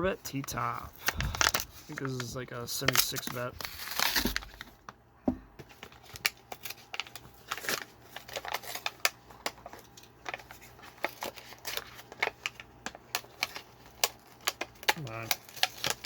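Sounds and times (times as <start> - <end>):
packaging clicking and snapping: 0.5 - 4.7, 5.7 - 16.0.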